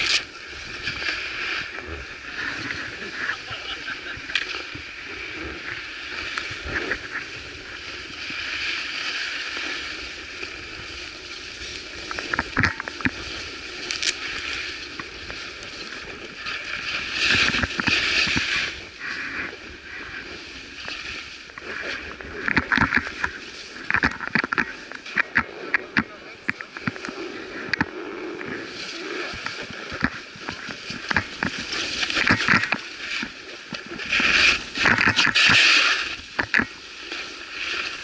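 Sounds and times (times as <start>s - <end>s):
skis scraping over snow: 0.0s - 38.0s.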